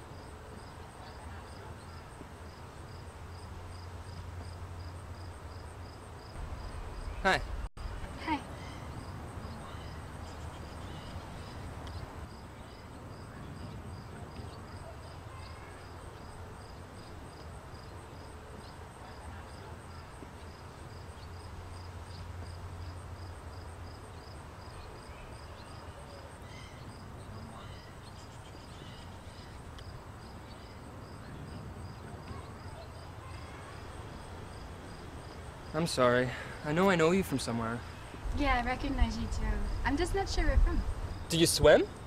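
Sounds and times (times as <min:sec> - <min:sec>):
insects chirping: 0:00.0 - 0:42.0.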